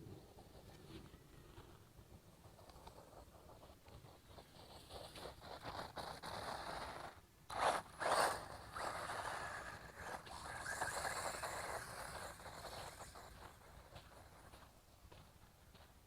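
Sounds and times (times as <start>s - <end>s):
rc car scraping rush over ground: 0.1s - 14.7s.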